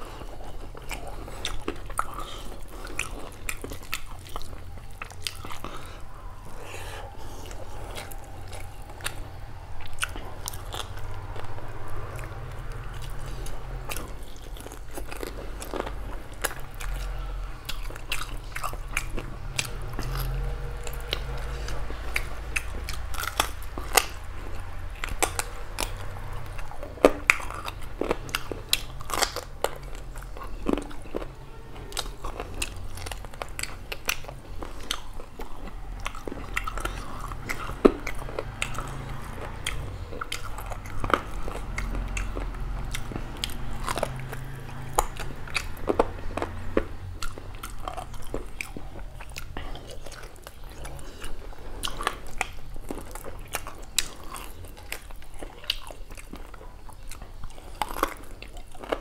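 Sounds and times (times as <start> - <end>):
close chewing with mouth clicks: 0.0 - 59.0.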